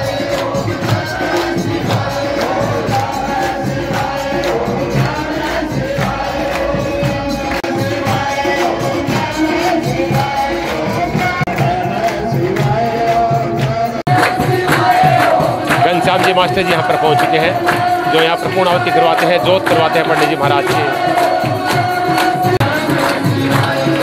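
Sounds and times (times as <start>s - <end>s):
crowd singing devotional chant: 0.0s - 24.0s
hand claps: 0.0s - 24.0s.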